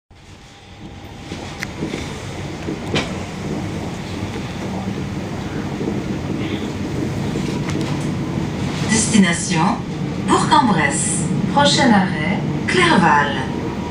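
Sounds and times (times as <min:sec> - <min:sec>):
train wheels rumbling on rails: 0:00.1 - 0:13.9.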